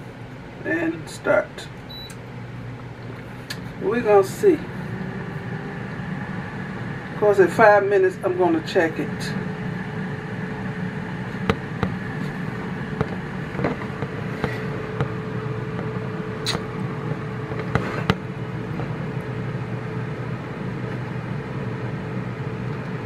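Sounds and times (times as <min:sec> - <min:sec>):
air fryer fan humming: 0:00.0 - 0:23.0.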